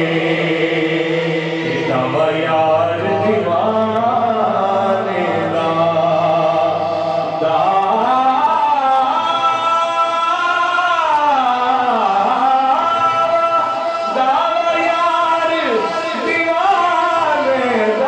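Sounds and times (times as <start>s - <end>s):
man singing into microphone: 0.0s - 18.0s.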